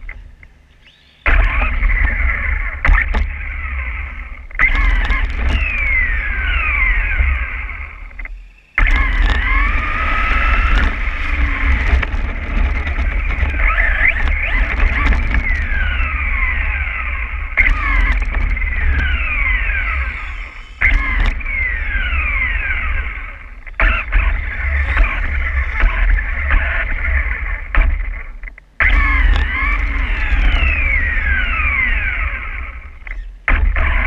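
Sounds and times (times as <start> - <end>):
electric motor and gear whine: 0.0 - 34.0
low rumble of chassis and tyres: 0.0 - 34.0.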